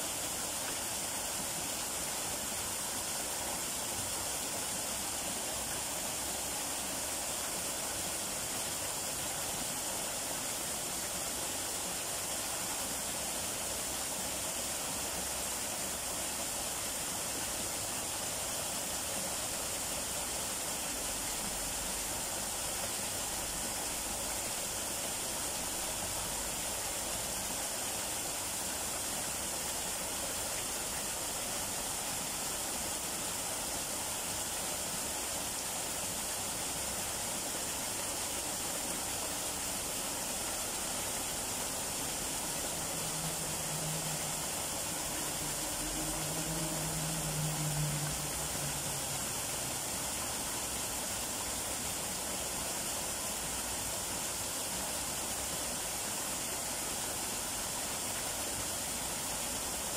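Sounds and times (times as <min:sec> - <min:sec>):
small waterfall splashing into pool: 0:00.0 - 0:59.9.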